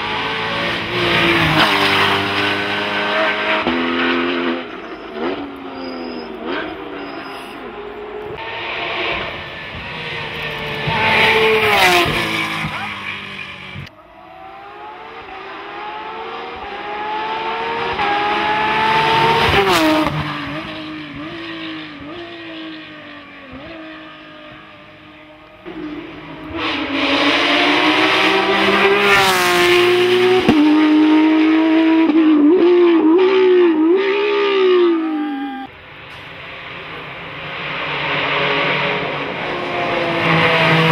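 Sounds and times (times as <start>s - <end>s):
racing car engines accelerating: 0.0s - 35.7s, 36.3s - 40.9s.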